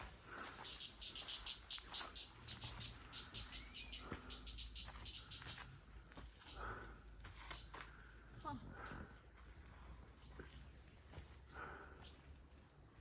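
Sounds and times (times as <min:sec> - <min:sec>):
insect chirping: 0:00.1 - 0:13.0.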